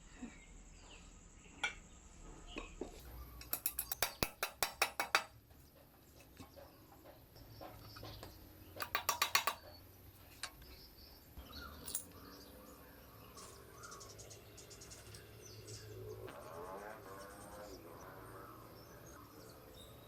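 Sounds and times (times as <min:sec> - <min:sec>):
faint insects chirping: 0:00.0 - 0:04.1, 0:05.4 - 0:20.0.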